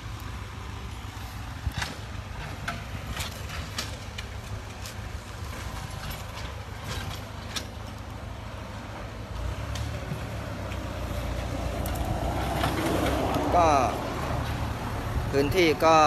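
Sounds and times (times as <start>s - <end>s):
tractor engine rumbling: 0.0s - 16.0s.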